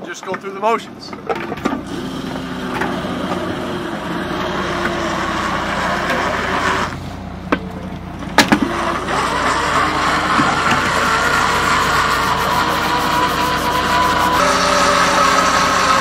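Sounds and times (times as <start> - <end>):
hydraulic hauler whine: 1.1 - 16.0
boat engine running: 1.6 - 16.0.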